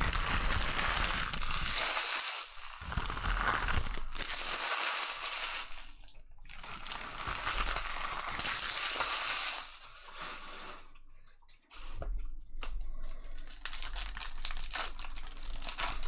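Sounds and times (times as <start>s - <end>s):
card pack wrappers crinkling and tearing: 0.0s - 10.0s, 12.6s - 16.0s.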